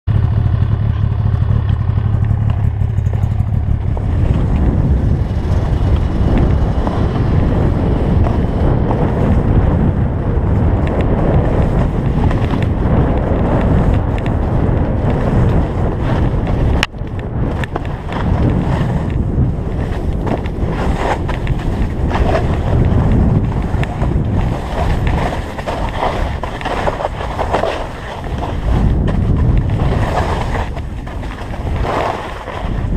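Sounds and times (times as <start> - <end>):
wind buffeting microphone: 0.1 - 32.9.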